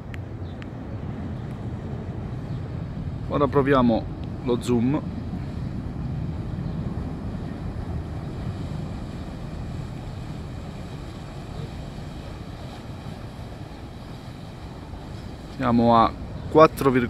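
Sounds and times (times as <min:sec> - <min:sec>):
ferry engine rumble: 0:00.0 - 0:17.0
wind buffeting microphone: 0:00.0 - 0:17.0.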